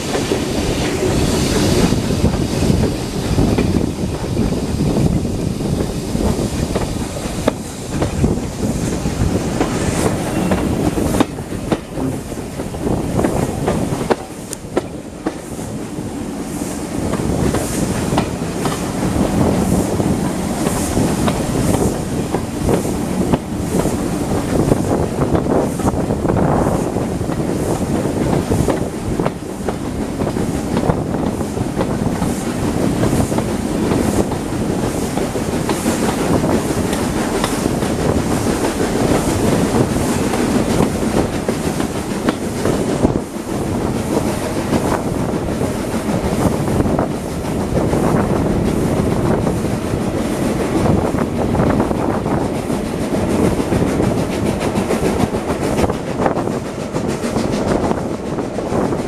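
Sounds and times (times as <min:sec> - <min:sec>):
train wheels clickety-clack on track: 0:00.0 - 0:59.0.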